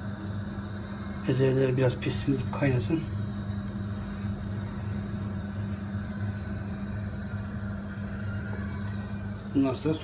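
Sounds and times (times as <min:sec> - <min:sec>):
kitchen motor humming: 0:00.0 - 0:10.0.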